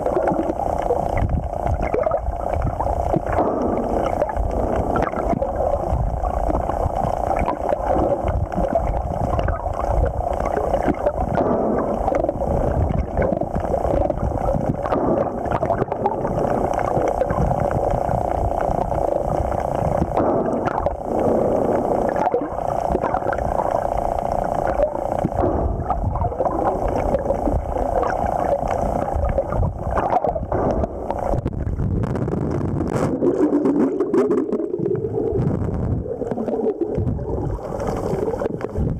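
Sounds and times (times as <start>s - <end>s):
underwater rushing and gurgling: 0.0s - 38.9s.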